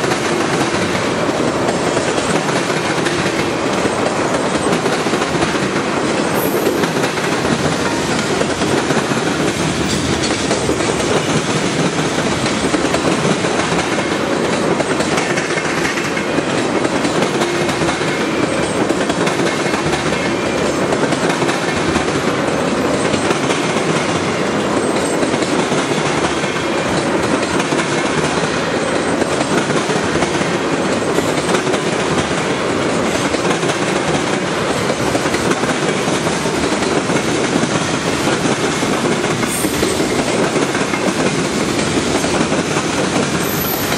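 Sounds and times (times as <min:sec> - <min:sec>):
train wheels rolling on rails: 0:00.0 - 0:43.9.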